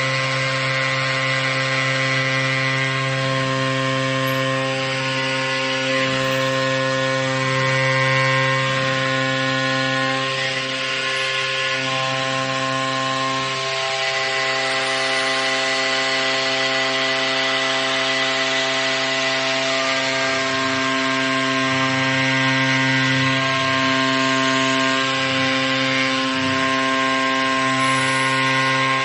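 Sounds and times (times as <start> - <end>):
cutting noise: 0.0 - 29.0
milling machine spindle running: 0.0 - 29.0.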